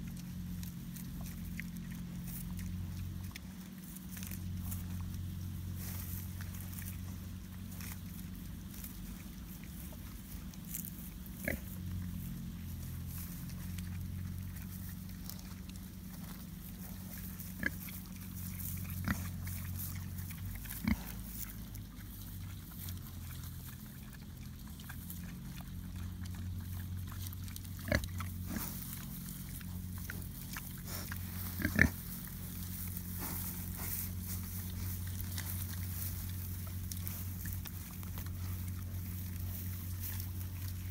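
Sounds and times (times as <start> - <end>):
pigs chewing: 0.0 - 40.9
pigs grunting: 0.0 - 40.9
steady low hum: 0.0 - 40.9.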